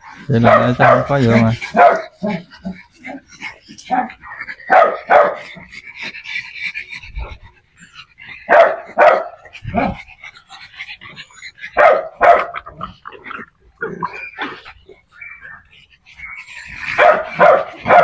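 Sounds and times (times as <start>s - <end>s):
small dogs barking: 0.0s - 18.0s.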